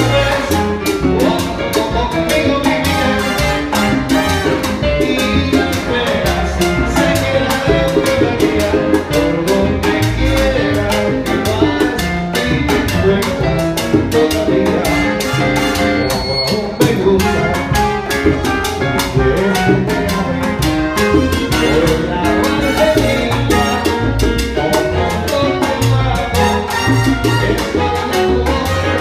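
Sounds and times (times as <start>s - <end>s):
bass: 0.0s - 29.0s
percussion beat: 0.0s - 29.0s
salsa band playing: 0.0s - 29.0s
trombones: 0.0s - 29.0s.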